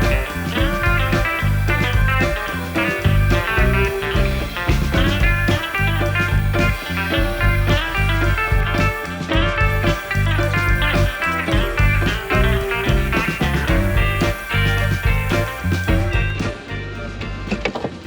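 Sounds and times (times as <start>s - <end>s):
blues-rock music with guitar: 0.0s - 18.0s.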